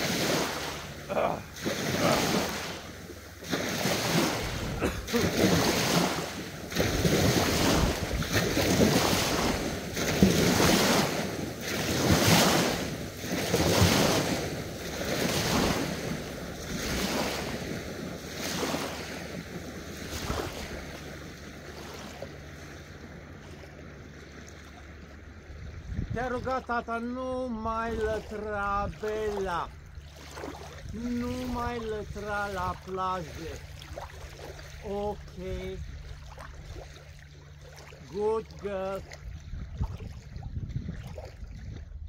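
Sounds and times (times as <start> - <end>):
person splashing through water: 0.0 - 26.6, 27.8 - 42.0
surf: 0.0 - 41.8
wind: 0.0 - 42.0.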